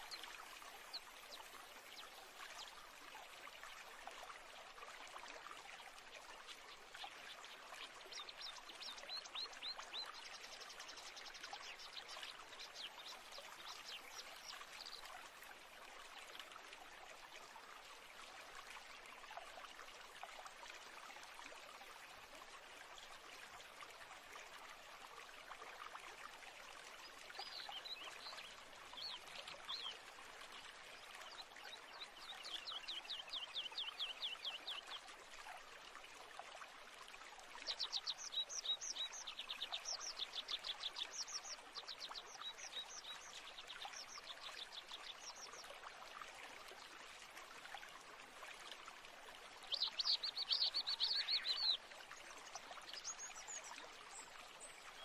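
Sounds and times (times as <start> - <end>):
flowing stream: 0.0 - 55.0.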